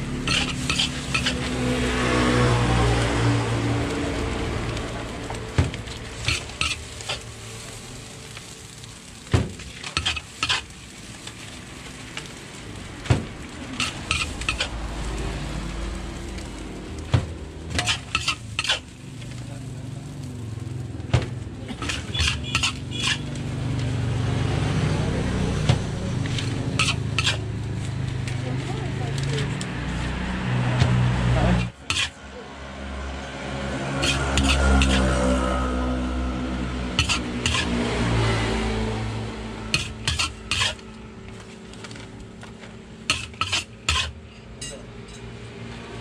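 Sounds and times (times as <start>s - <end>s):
rice sizzling in a wok: 0.0s - 46.0s.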